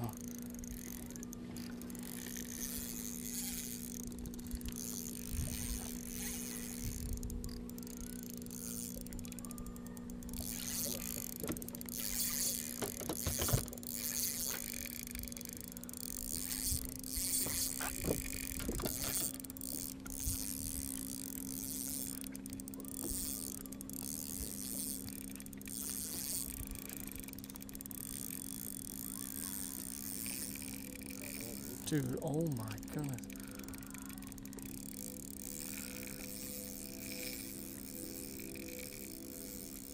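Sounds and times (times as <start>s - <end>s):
faint clicks: 0.0s - 32.0s, 32.8s - 39.9s
boat motor humming: 0.0s - 39.9s.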